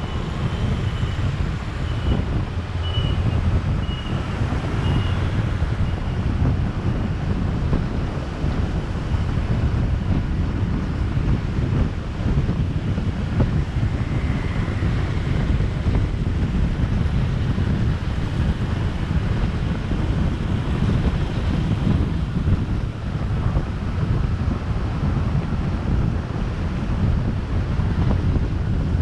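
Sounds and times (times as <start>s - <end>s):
street traffic: 0.0s - 29.0s
wind buffeting microphone: 0.0s - 29.0s.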